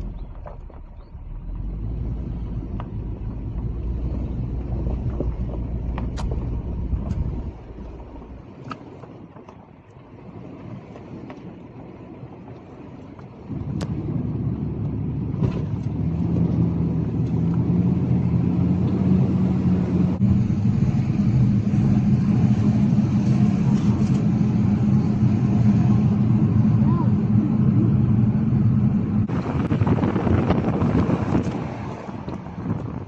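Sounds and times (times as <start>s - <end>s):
car engine drone: 0.0s - 33.0s
road noise: 0.0s - 33.0s.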